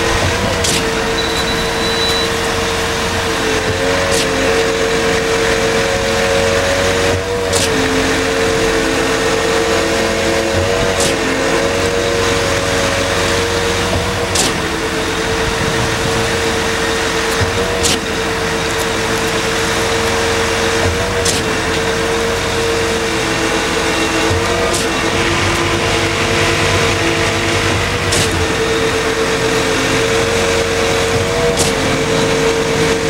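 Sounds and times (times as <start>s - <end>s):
concrete pump engine drone: 0.0s - 33.0s.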